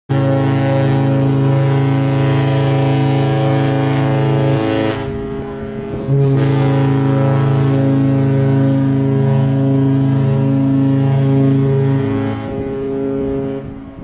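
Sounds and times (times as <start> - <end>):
ship horn blasts: 0.1 - 14.0.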